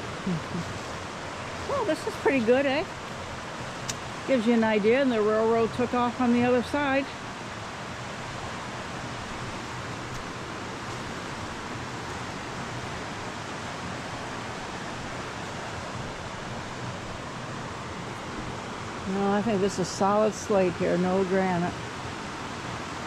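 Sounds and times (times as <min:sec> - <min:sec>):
river water flowing: 0:00.0 - 0:23.0.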